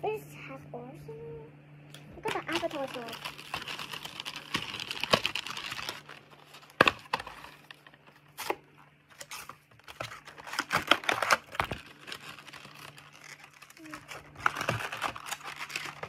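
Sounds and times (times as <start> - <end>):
packaging tearing and crinkling: 2.2 - 16.0.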